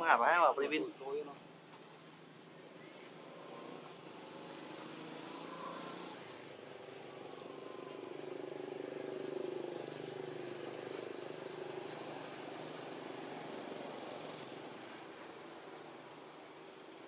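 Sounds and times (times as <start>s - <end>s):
passing vehicle engine drone: 3.0s - 16.8s.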